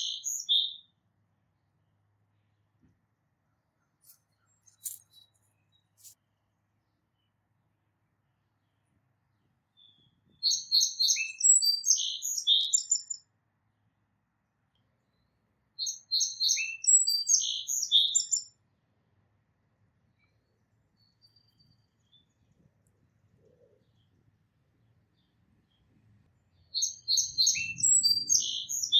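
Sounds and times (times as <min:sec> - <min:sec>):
songbird singing: 0:00.0 - 0:01.0, 0:02.3 - 0:07.7, 0:08.5 - 0:13.3, 0:14.7 - 0:18.6, 0:20.1 - 0:28.9.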